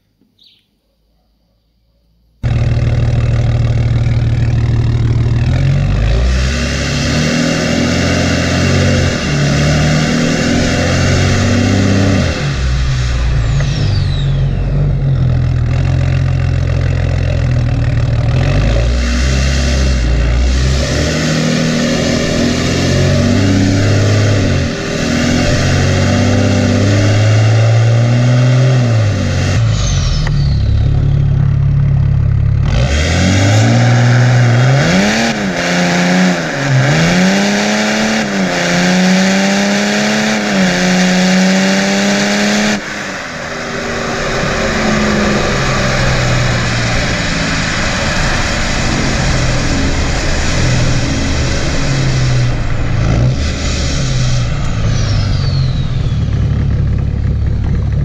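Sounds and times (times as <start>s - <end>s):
car engine revving: 2.4s - 58.0s
wind and road noise: 2.4s - 58.0s.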